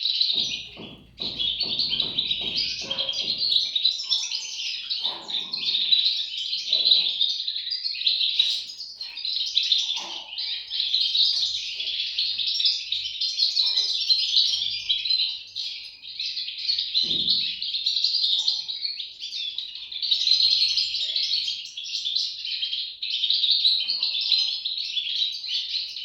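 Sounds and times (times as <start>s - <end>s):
bird chicks chirping: 0.0s - 26.0s.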